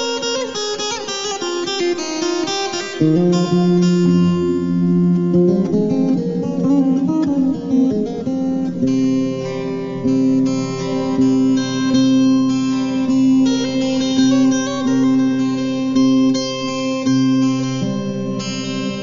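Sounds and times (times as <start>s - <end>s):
solo acoustic guitar melody: 0.0s - 19.0s.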